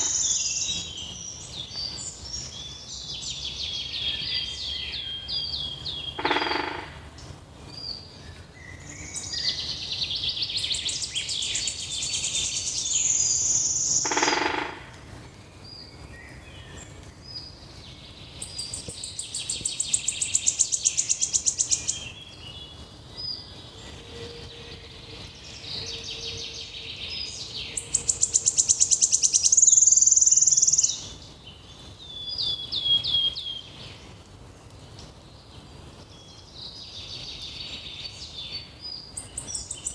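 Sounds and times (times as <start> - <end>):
soft steady background noise: 0.0 - 39.9
songbirds singing: 0.0 - 39.9.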